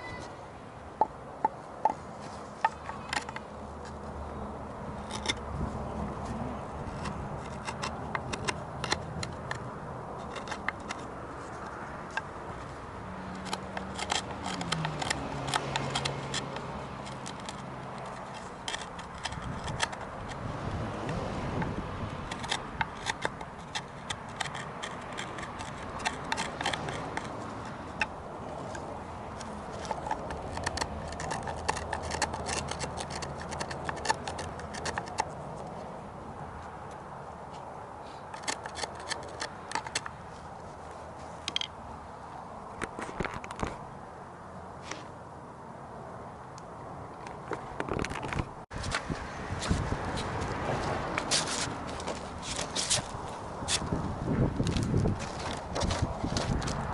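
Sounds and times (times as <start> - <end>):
hand tool scraping wood: 1.0 - 35.8, 37.5 - 41.7, 47.6 - 56.9.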